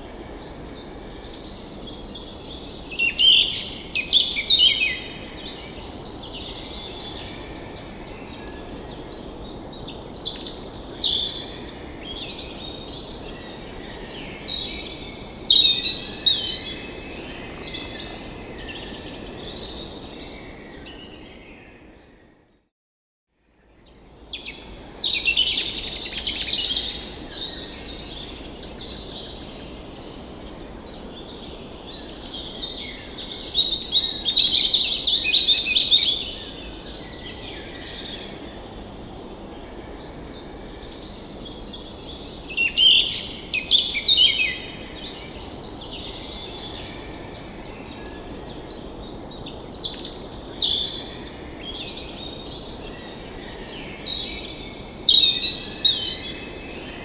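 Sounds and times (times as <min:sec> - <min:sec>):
songbirds singing and chirping: 0:00.0 - 0:22.4, 0:23.8 - 0:57.0.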